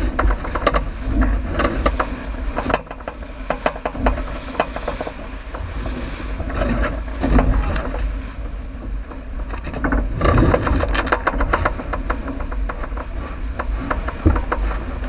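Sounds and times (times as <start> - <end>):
small knocks and clicks: 0.0 - 15.0
water rushing along a hull: 0.0 - 15.0
wind buffeting microphone: 0.0 - 15.0.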